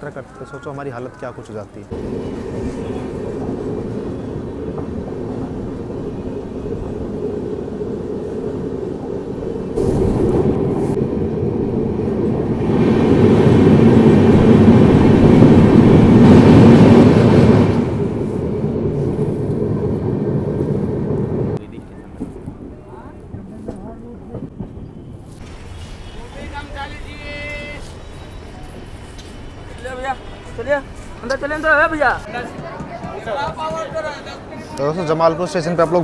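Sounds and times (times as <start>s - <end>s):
train wheels rumbling on rails: 1.7s - 36.0s.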